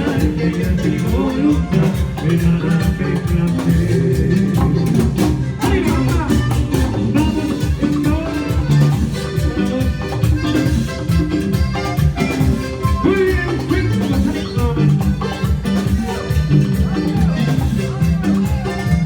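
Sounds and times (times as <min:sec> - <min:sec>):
latin band instrumental: 0:00.0 - 0:19.0
steady drum beat: 0:00.0 - 0:19.0.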